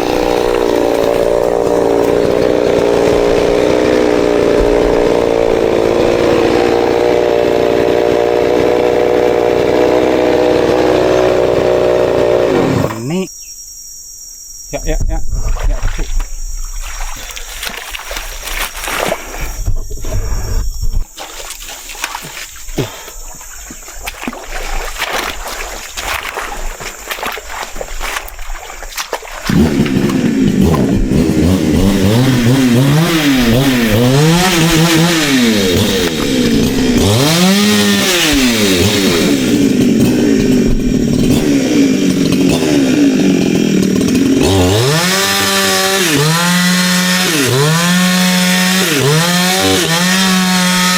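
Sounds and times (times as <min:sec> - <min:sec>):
chainsaw engine revving: 0:00.0 - 0:13.2, 0:17.0 - 0:50.9.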